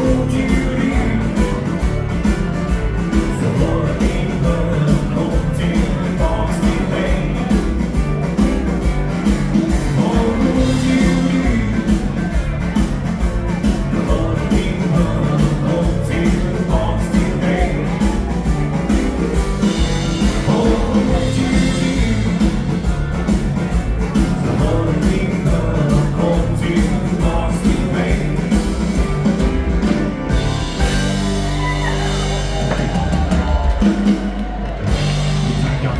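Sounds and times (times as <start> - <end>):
bass: 0.0 - 35.9
electric guitars: 0.0 - 35.9
keyboards: 0.0 - 35.9
live dance band playing: 0.0 - 35.9
steady drum beat: 0.0 - 35.9.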